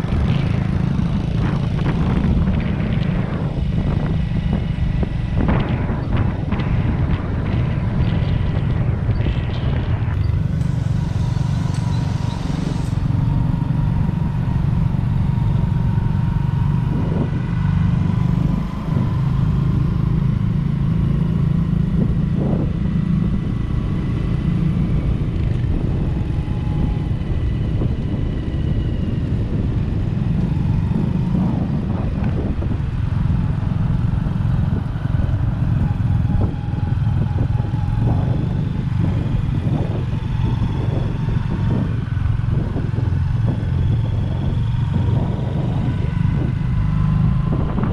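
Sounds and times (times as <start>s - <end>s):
motorcycle engine rumbling: 0.0s - 47.9s.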